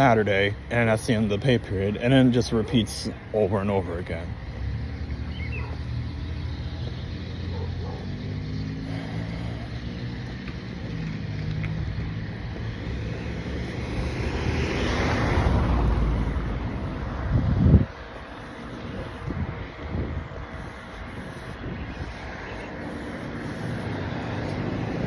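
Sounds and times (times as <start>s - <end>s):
vehicle engine humming: 0.0s - 25.0s
vehicle passing close: 0.0s - 25.0s.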